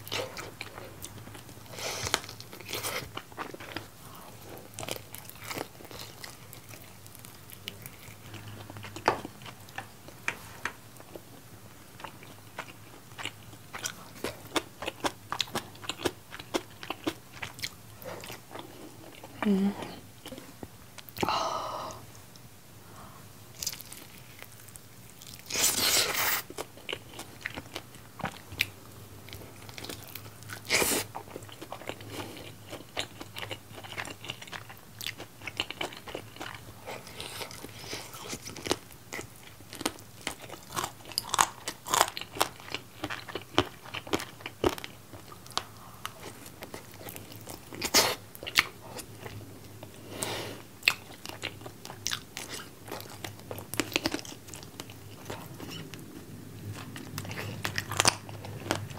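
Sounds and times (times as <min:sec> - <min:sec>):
person chewing crunchy fried chicken: 0:00.0 - 0:19.5, 0:23.5 - 0:58.9.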